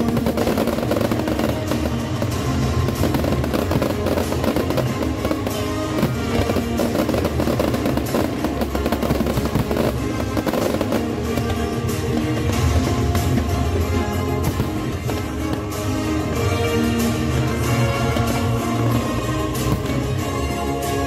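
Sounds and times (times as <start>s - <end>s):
fireworks bangs: 0.0s - 21.0s
music: 0.0s - 21.0s.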